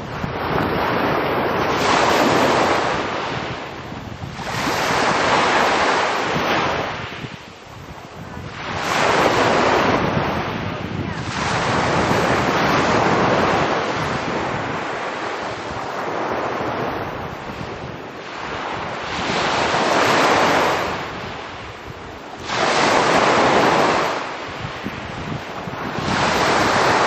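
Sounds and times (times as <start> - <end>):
small waves breaking on shore: 0.0 - 27.0.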